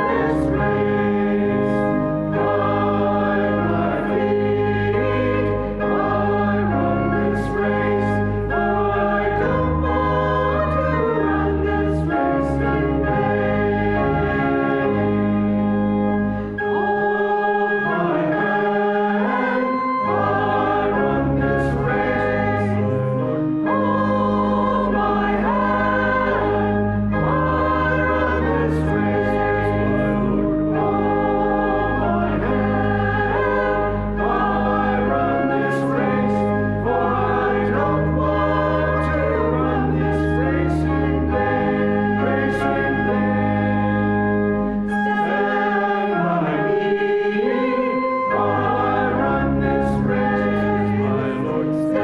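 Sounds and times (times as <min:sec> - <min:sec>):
group of voices singing: 0:00.0 - 0:15.8, 0:16.4 - 0:52.0
organ bass notes: 0:00.0 - 0:52.0.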